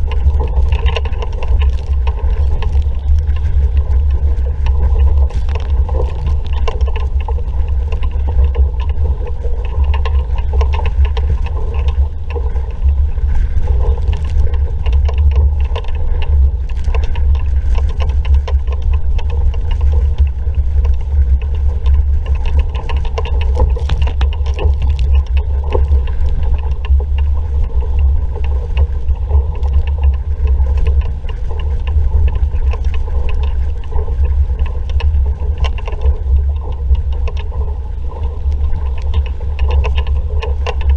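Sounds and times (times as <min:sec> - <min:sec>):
water splashing along hull: 0:00.0 - 0:40.9
wind buffeting microphone: 0:00.0 - 0:40.9.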